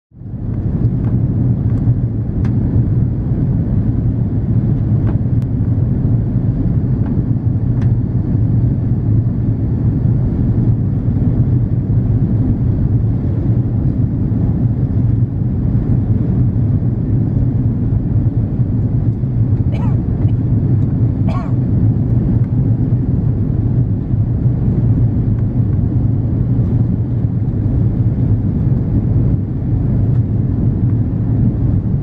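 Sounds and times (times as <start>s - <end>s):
airplane cabin rumble: 0.1s - 32.0s.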